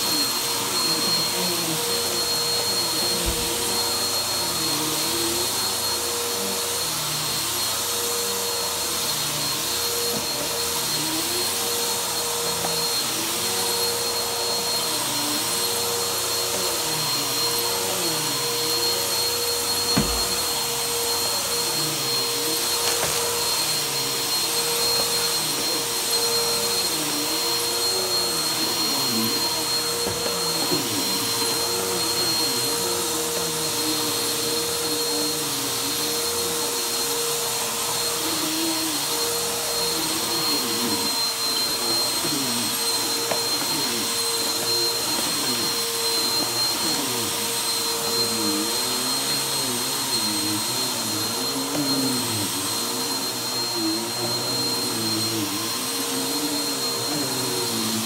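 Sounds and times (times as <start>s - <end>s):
upright vacuum cleaner on carpet: 0.0s - 58.0s.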